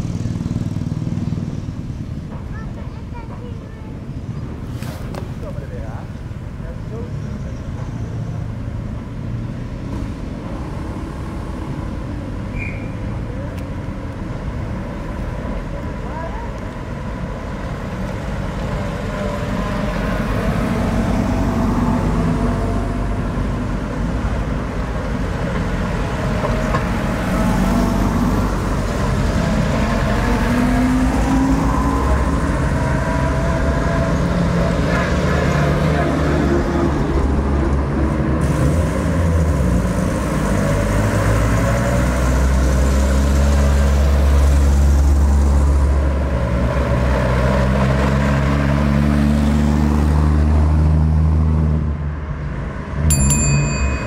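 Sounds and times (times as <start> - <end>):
military vehicle engines passing: 0.0 - 54.0.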